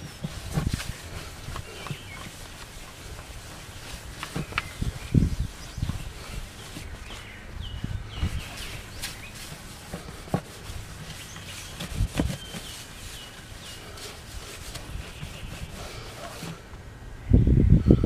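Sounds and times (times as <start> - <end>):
rag rubbing guitar top: 0.0 - 16.7
birds chirping: 0.0 - 18.0.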